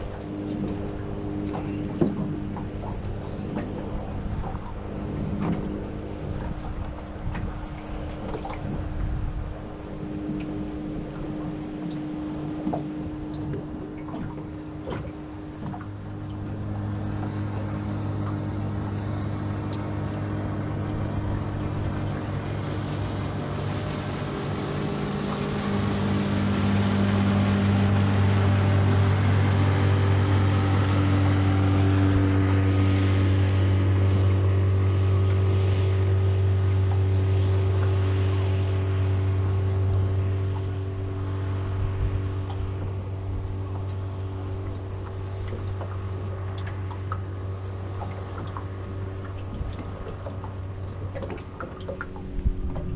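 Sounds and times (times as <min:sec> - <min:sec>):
motorboat engine drone: 0:00.0 - 0:52.9.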